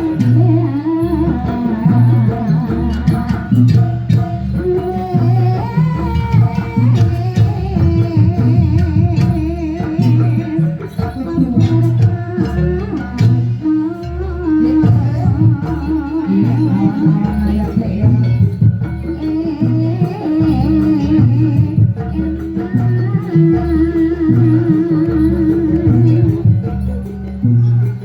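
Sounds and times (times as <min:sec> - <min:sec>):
clashing percussion: 0:00.0 - 0:28.0
deep drum beats: 0:00.0 - 0:28.0.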